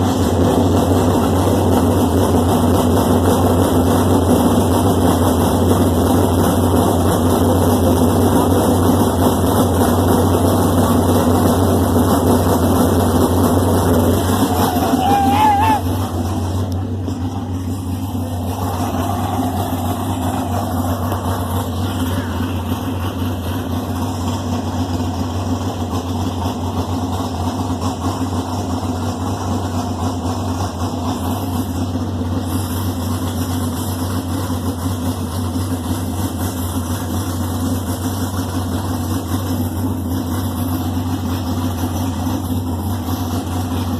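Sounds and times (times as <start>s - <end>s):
race car engine idling: 0.0s - 43.9s.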